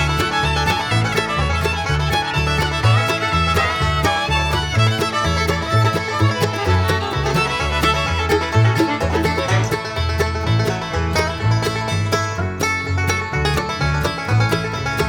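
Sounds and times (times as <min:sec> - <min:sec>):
banjo: 0:00.0 - 0:15.0
bass line: 0:00.0 - 0:15.0
fiddle: 0:00.0 - 0:15.0.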